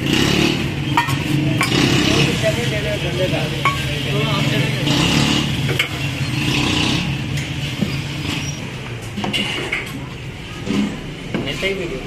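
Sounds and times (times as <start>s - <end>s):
vehicle engines passing: 0.0s - 12.0s.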